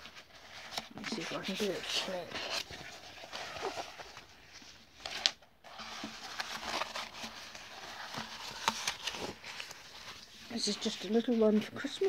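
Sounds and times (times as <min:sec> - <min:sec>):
canvas and paper rustling: 0:00.0 - 0:12.0.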